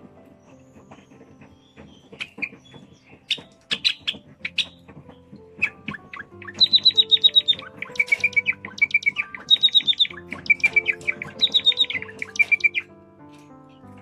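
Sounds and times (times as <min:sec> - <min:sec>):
background music: 0:00.0 - 0:14.0
sparrow chirping: 0:00.4 - 0:14.0.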